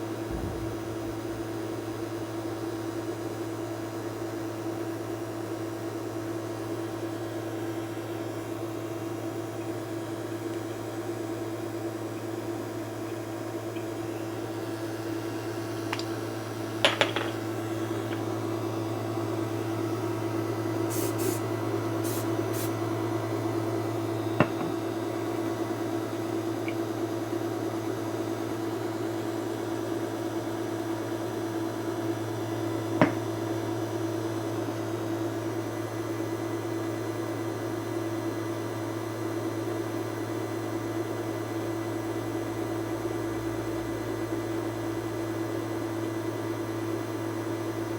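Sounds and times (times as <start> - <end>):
machine humming and hissing: 0.0 - 47.9.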